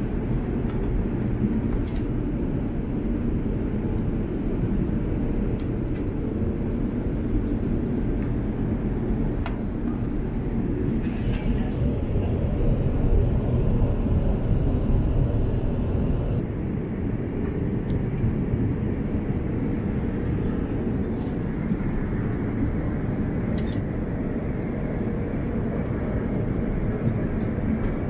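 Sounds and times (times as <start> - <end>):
airliner cabin roar: 0.0 - 28.0.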